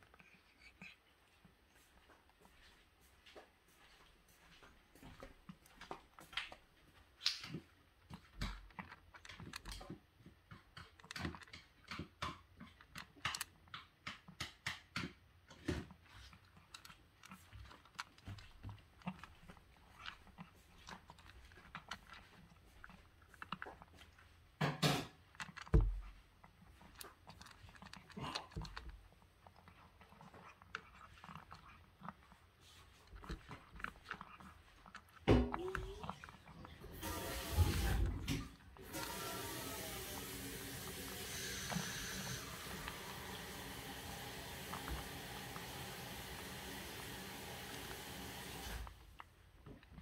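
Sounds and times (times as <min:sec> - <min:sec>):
cat crunching dry kibble: 0:05.4 - 0:39.2, 0:41.5 - 0:47.1, 0:48.8 - 0:50.0.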